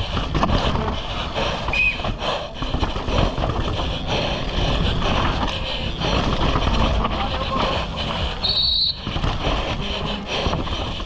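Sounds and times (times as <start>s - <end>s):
bike rattling and knocking: 0.0s - 11.0s.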